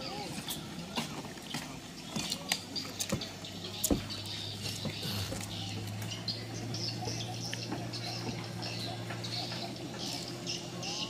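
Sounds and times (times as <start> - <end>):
knocks and clanks of boats: 0.0 - 11.0.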